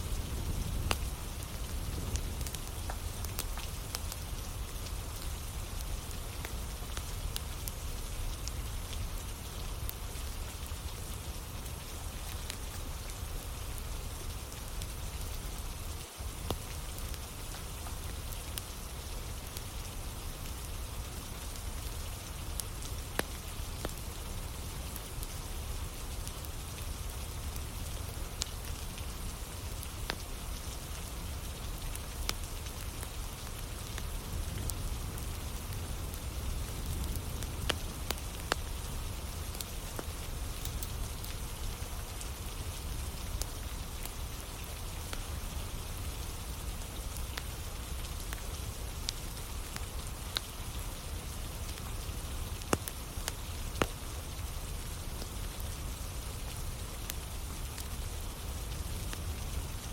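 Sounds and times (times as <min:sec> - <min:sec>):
steady rain pattering: 0:00.0 - 0:59.9
wood fire crackling and popping: 0:00.0 - 0:59.9.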